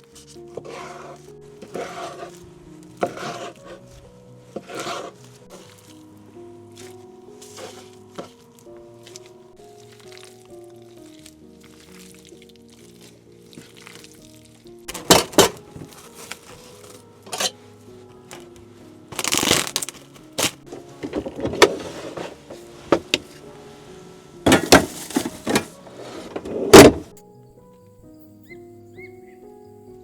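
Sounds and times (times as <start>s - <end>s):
soft background music: 0.0s - 30.0s.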